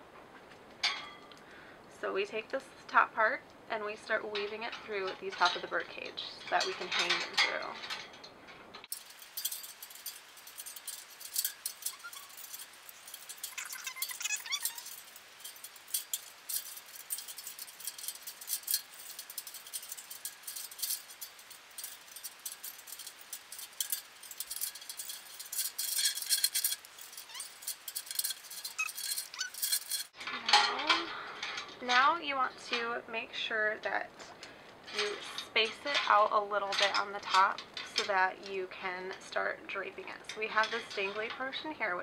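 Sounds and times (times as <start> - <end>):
light bulbs clinking against wire cage: 0.7 - 1.5, 3.4 - 33.0, 33.7 - 42.0.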